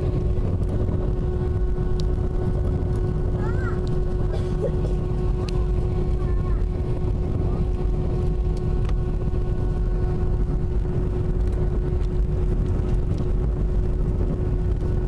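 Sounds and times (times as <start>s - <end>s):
jet engines rumbling: 0.0s - 15.0s
steady hum: 0.0s - 15.0s.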